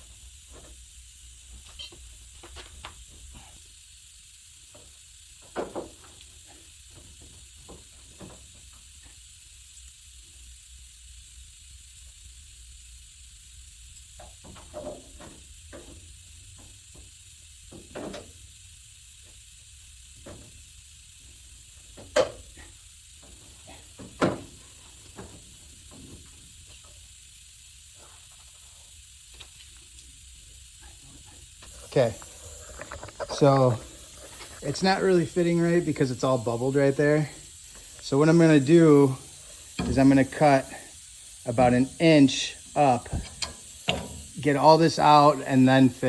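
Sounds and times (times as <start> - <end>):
faint hiss: 0.0 - 46.0.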